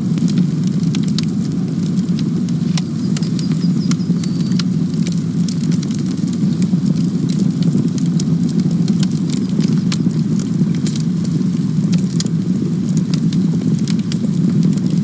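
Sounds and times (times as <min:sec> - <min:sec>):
burning wood crackling: 0:00.0 - 0:15.0
campfire flames rumbling: 0:00.0 - 0:15.0.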